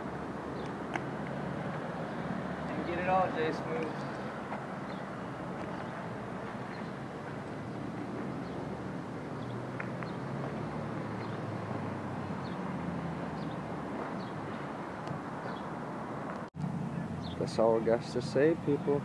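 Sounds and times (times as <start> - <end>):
low rumble of distant traffic: 0.0 - 19.0.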